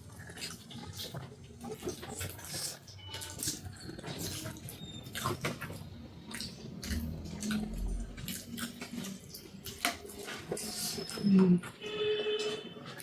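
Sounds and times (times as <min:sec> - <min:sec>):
wet chewing and lip-smacking: 0:00.0 - 0:11.3.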